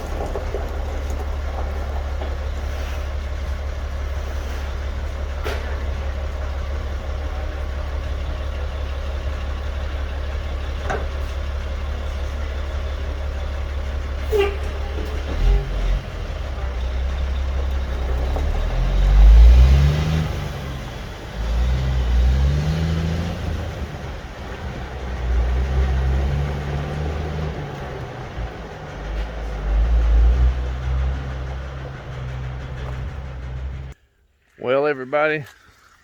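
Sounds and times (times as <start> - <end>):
vehicle engine rumbling: 0.0 - 34.1.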